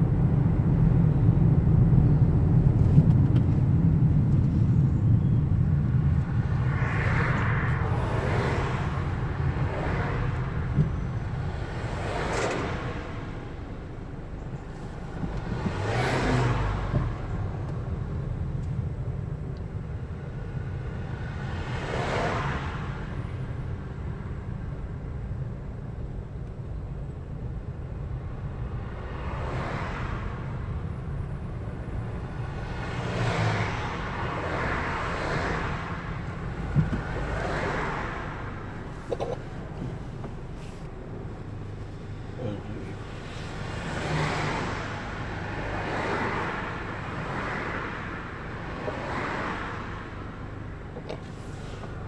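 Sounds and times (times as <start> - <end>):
low traffic rumble: 0.0 - 52.0
vehicles swishing past: 2.6 - 13.9, 14.6 - 18.2, 20.2 - 23.6, 28.4 - 52.0.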